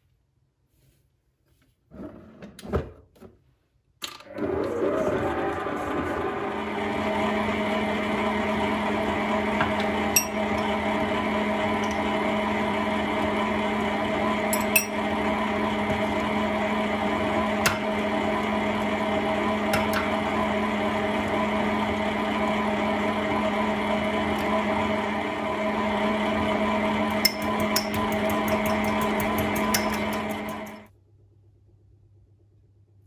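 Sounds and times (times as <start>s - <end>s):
electric stand mixer running: 4.2s - 30.9s.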